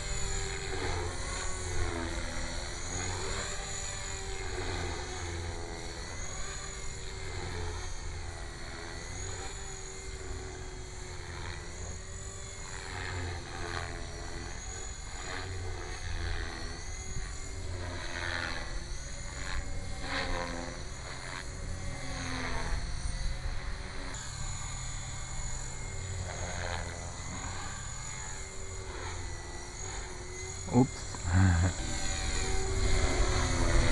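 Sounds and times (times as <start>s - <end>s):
rc helicopter motor and rotor whine: 0.0s - 33.9s.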